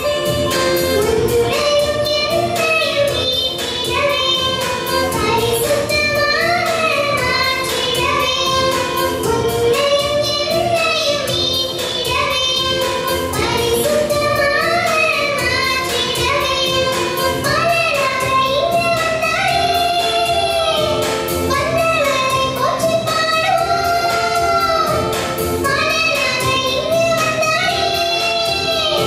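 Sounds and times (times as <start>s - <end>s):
instrumental backing: 0.0s - 29.0s.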